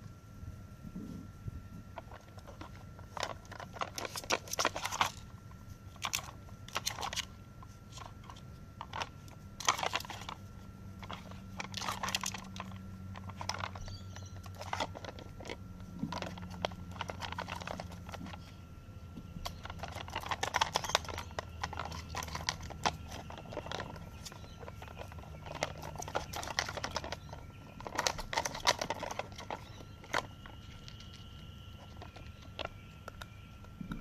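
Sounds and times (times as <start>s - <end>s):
treats crunching: 1.0s - 34.0s
plastic puzzle toy clattering: 2.0s - 5.3s, 5.9s - 7.3s, 7.9s - 10.4s, 11.0s - 18.5s, 19.4s - 33.3s.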